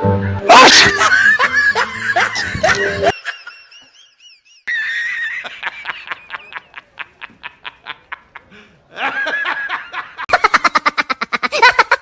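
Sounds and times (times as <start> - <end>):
snickering laughter: 0.7 - 12.0.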